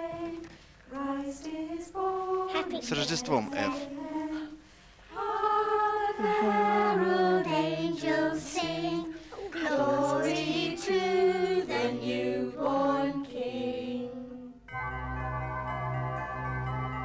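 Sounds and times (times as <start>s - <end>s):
group of people singing: 0.0s - 14.7s.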